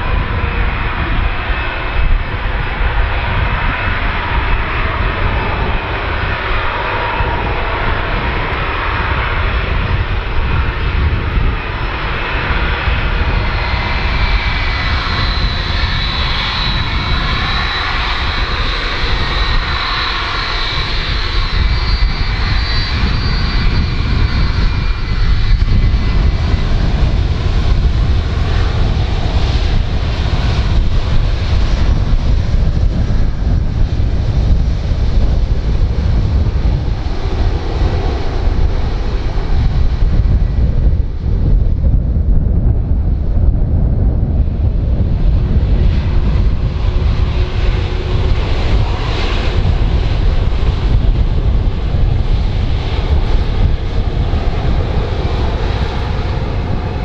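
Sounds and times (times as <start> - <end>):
jet engine rumble and hiss: 0.0 - 57.0.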